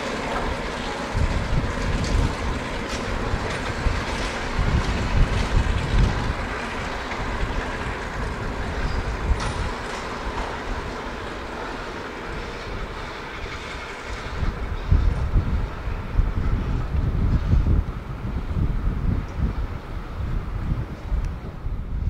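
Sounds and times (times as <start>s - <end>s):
diesel train rumbling on track: 0.0s - 22.0s.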